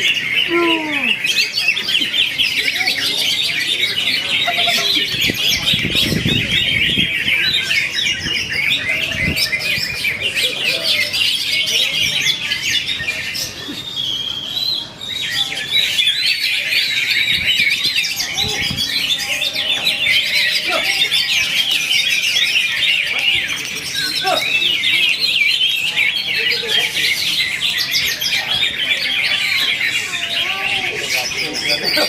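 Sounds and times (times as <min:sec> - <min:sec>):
bird chattering song: 0:00.0 - 0:32.0.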